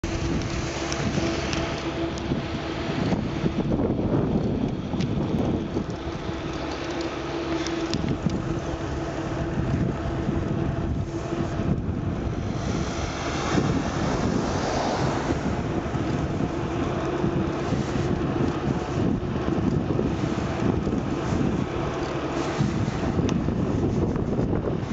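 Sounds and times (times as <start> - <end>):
steady low hum: 0.0 - 24.9
wind buffeting microphone: 0.0 - 24.9.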